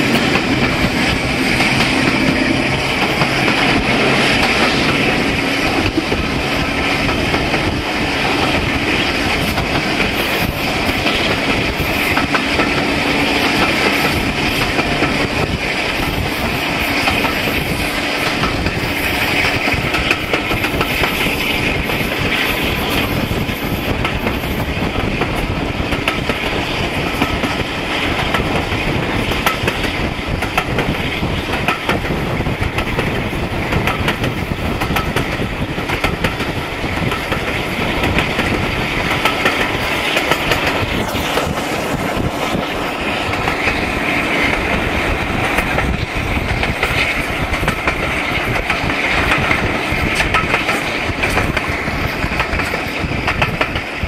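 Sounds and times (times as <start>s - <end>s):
train running noise: 0.0s - 54.0s
wheels clicking over rail joints: 0.0s - 54.0s
wind: 0.0s - 54.0s.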